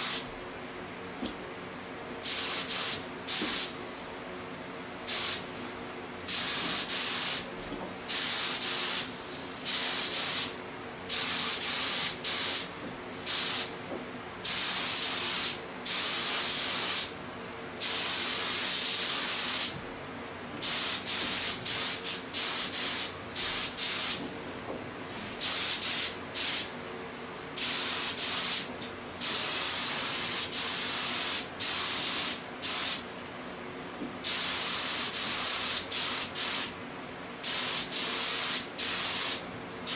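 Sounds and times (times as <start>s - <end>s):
air spray gun hissing: 0.0s - 0.3s, 2.2s - 4.2s, 4.9s - 7.5s, 8.1s - 13.8s, 14.4s - 33.6s, 34.2s - 36.8s, 37.4s - 39.9s.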